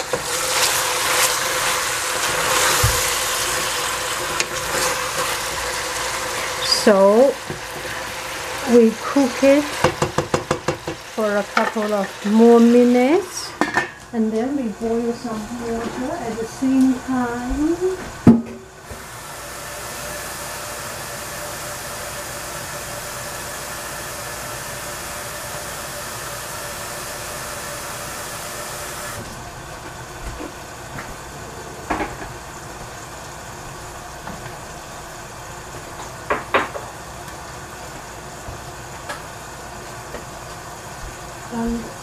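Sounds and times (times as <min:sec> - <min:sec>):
steady hiss from pan: 0:00.0 - 0:42.0.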